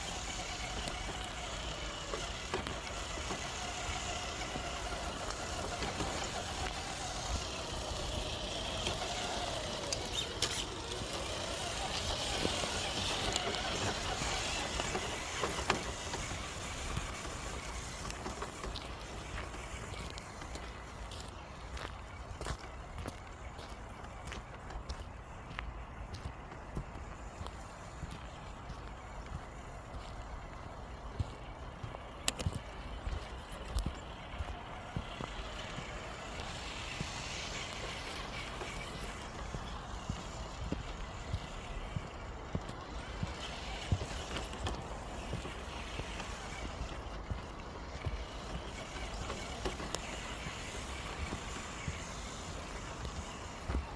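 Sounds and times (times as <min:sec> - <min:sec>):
footsteps on trail: 0:00.0 - 0:53.9
road traffic hiss: 0:00.0 - 0:53.9.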